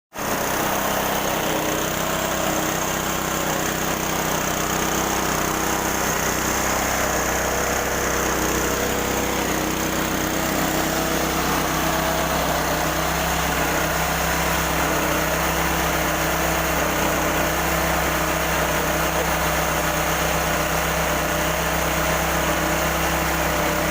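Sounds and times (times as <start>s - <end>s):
rice milling machine running: 0.1s - 23.9s.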